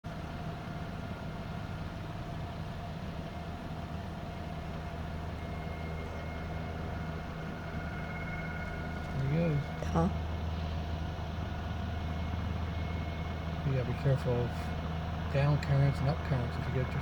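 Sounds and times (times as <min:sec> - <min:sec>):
helicopter engine whine: 0:00.1 - 0:17.0
helicopter rotor drone: 0:00.1 - 0:17.0.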